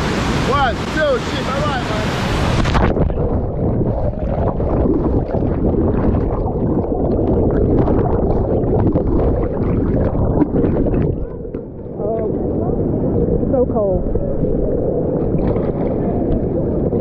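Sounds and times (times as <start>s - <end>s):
underwater river rushing and bubbling: 0.0s - 17.0s.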